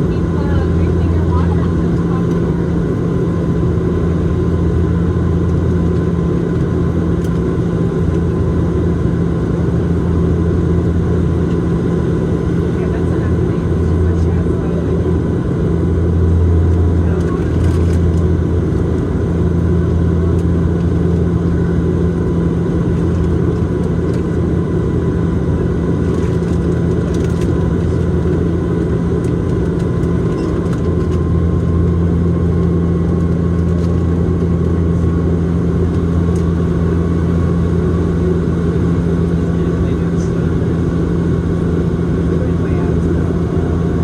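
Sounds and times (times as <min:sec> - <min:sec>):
propeller engines humming: 0:00.0 - 0:44.0.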